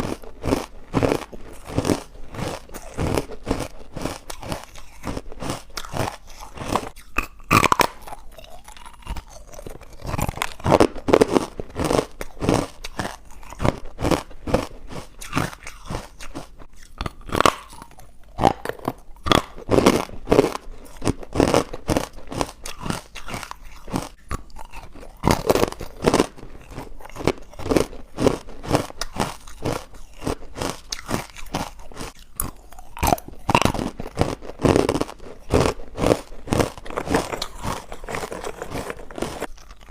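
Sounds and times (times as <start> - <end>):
person crunching ice bites: 0.0 - 39.9.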